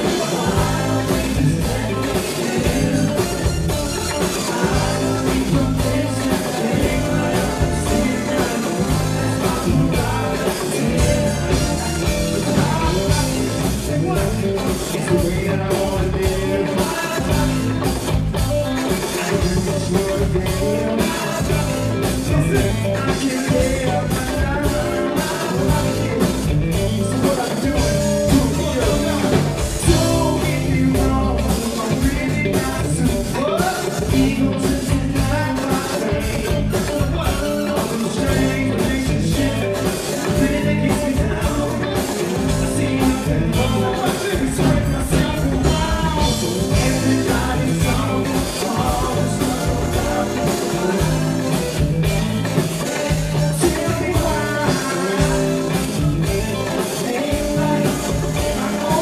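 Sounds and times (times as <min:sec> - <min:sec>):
lead singers: 0:00.0 - 0:59.0
live band playing a song: 0:00.0 - 0:59.0.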